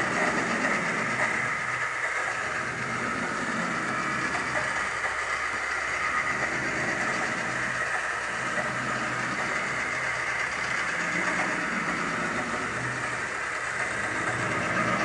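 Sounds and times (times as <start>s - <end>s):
pen plotter whirring: 0.0s - 15.0s.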